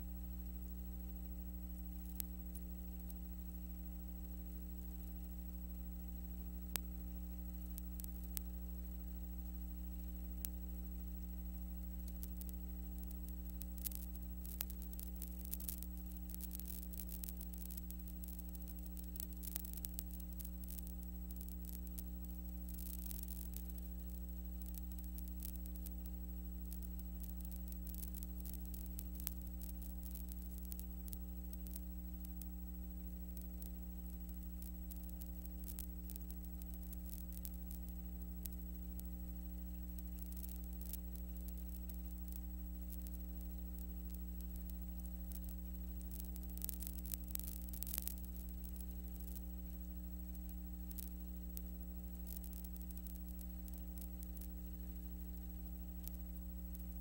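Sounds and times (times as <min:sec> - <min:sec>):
electrical mains hum: 0:00.0 - 0:57.0
faint clicks and crackle: 0:00.0 - 0:57.0.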